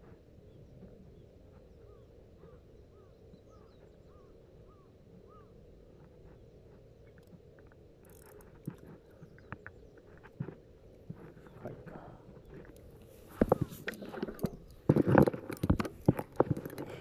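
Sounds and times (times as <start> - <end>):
distant bird calling: 0.0 - 7.4, 8.0 - 14.8
faint steady hum: 0.0 - 17.0.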